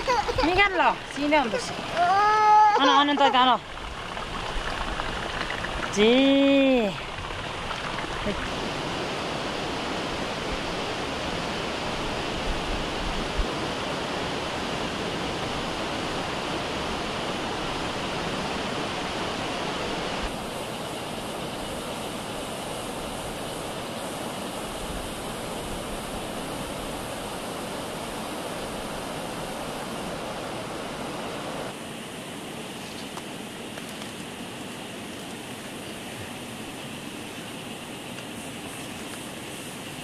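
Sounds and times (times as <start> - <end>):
mountain river rushing: 0.0 - 40.0.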